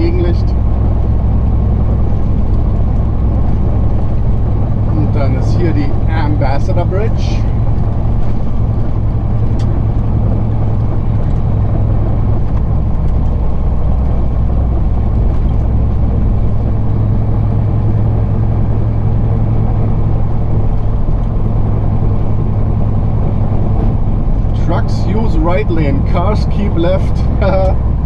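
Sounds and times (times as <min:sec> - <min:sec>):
road and tyre noise: 0:00.0 - 0:28.0
truck diesel engine droning: 0:00.0 - 0:28.0.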